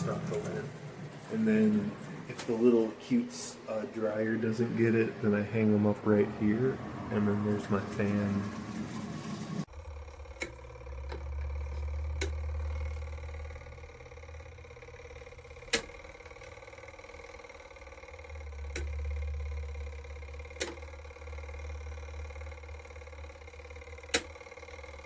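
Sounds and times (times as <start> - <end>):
electric fan humming: 0.0 - 25.0.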